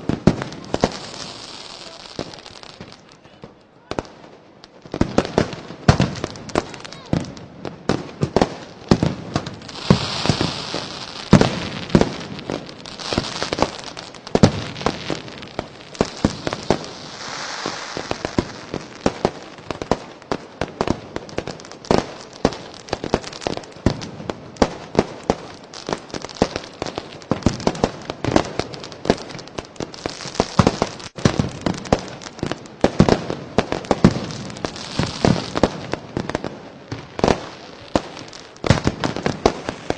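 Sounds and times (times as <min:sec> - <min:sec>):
fireworks hissing: 0:00.0 - 0:03.3, 0:05.0 - 0:39.9
fireworks bangs and pops: 0:00.0 - 0:39.9.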